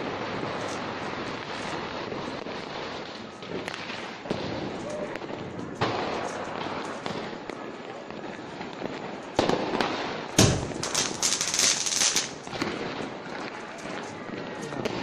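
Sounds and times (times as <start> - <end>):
fireworks bangs: 0.0 - 15.0
fireworks crackling and hissing: 0.0 - 15.0.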